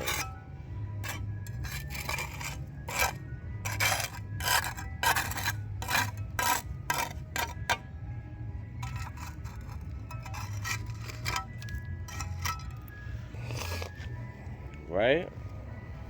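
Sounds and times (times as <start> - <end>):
hard object scraping: 0.0 - 7.9, 8.8 - 14.4.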